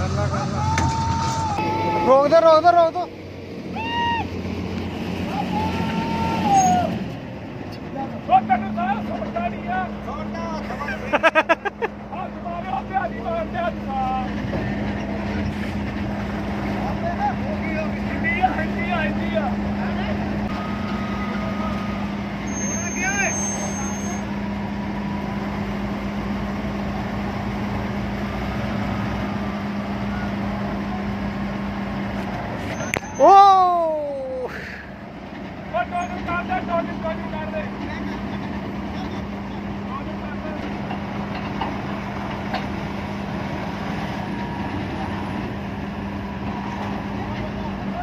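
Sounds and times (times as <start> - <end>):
combine harvester engines droning: 0.0 - 48.0.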